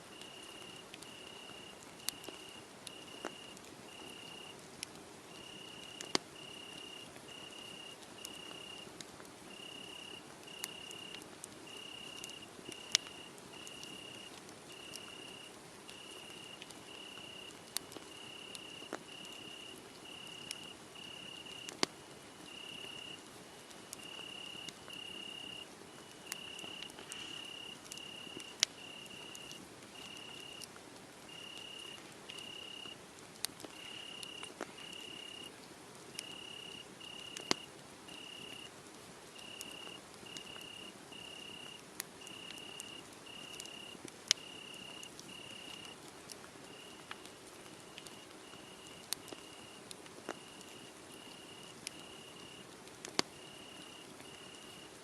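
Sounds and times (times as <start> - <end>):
cricket chirping: 0.1 - 4.5, 5.3 - 8.8, 9.5 - 17.5, 18.1 - 21.8, 22.5 - 23.2, 24.0 - 30.7, 31.3 - 33.0, 33.7 - 35.6, 36.2 - 38.7, 39.4 - 46.0, 46.7 - 47.0, 48.0 - 52.6, 53.3 - 54.8
wood fire crackling and popping: 0.1 - 55.0.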